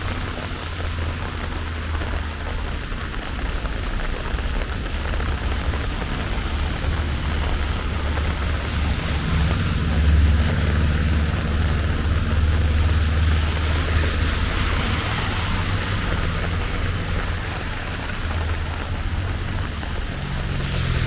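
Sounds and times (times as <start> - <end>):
low motor-like rumble: 0.0 - 21.0
steady rain hiss: 0.0 - 21.0.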